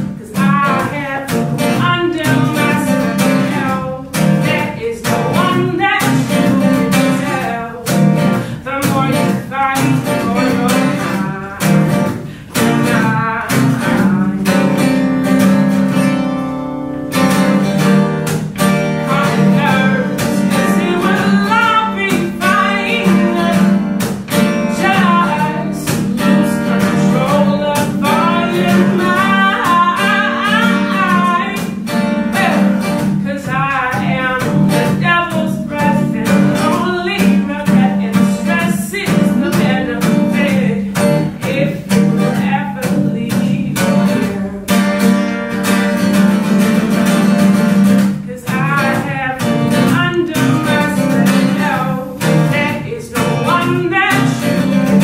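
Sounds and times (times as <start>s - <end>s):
person singing: 0.0s - 16.1s, 17.1s - 45.4s, 47.9s - 55.0s
acoustic guitar: 0.0s - 55.0s.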